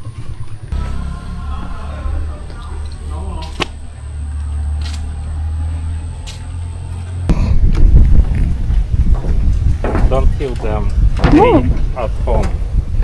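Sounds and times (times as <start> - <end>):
rough low rumble: 0.0 - 13.0.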